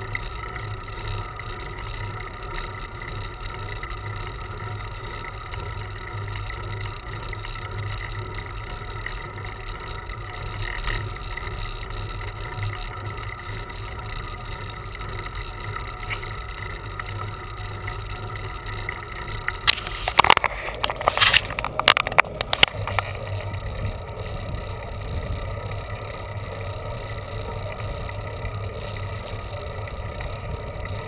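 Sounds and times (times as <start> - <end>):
bicycle road and wind noise: 0.0 - 31.0
faint steady whine: 0.0 - 31.0.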